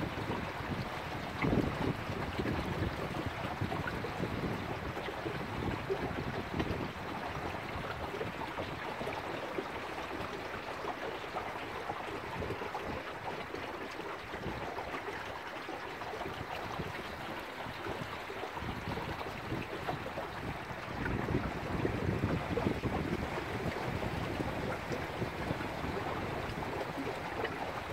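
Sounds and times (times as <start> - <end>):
water rushing along hull: 0.0 - 27.9.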